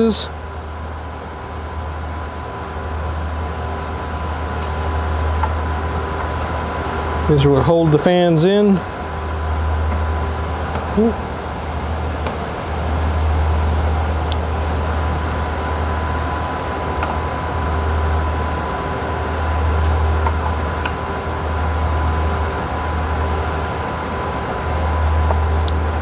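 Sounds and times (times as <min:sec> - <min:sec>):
equipment hum and cooling fans: 0:00.0 - 0:26.0.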